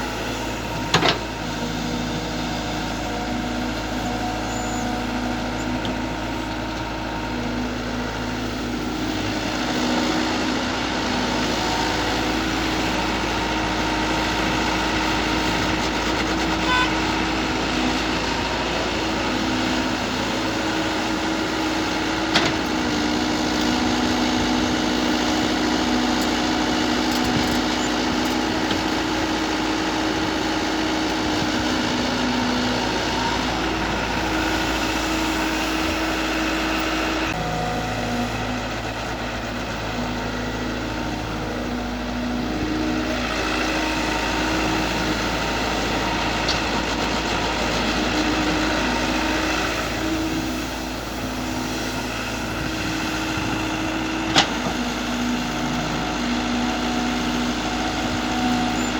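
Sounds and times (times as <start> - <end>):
excavator diesel engine: 0.0 - 58.9.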